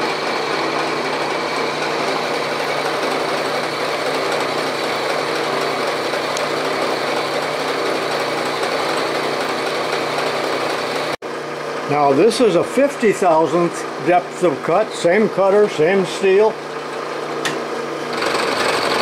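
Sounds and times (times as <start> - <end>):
milling machine cutting steel: 0.0 - 11.2, 12.0 - 19.0.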